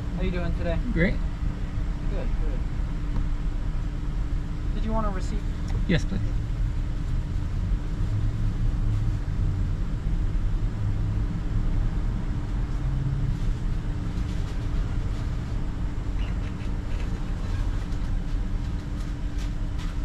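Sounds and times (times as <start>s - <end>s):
idling car rumble: 0.0s - 20.0s.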